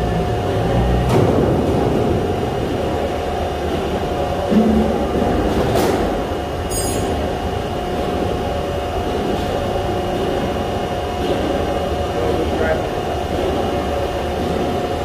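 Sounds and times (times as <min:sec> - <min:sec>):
heavy machinery hum: 0:00.0 - 0:15.0.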